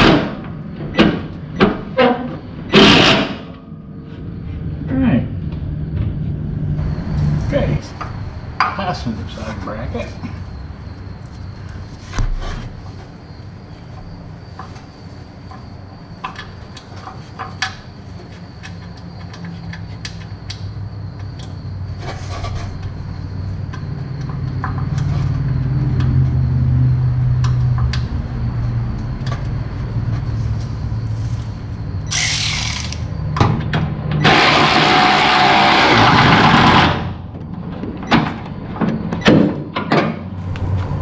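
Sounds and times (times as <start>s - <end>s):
steady low hum: 0.0s - 33.4s.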